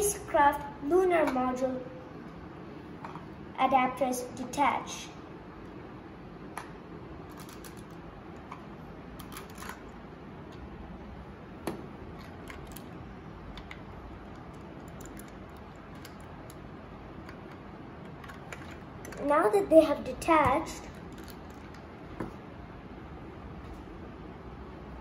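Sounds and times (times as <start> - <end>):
low background hiss: 0.0 - 25.0.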